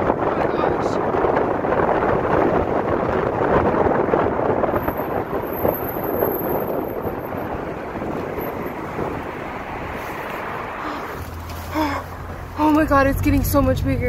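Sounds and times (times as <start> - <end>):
wind and road noise rushing: 0.0 - 14.0.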